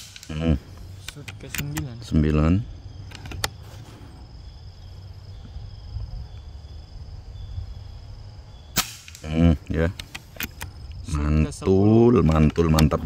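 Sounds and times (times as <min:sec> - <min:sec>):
insects buzzing: 0:00.0 - 0:13.0
low outdoor rumble: 0:00.0 - 0:13.0.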